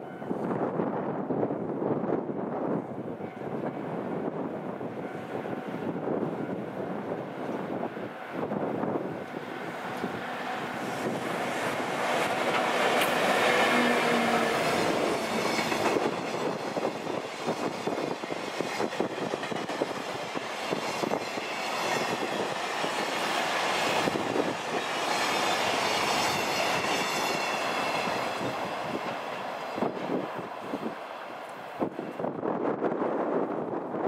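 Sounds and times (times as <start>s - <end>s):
locomotive whine: 2.8s - 33.6s.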